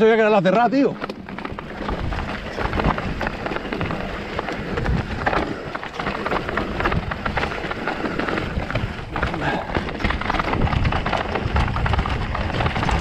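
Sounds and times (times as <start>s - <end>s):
bike rattling: 0.0s - 13.0s
tyres crunching over stones: 0.0s - 13.0s
wind rumble on microphone: 0.9s - 13.0s.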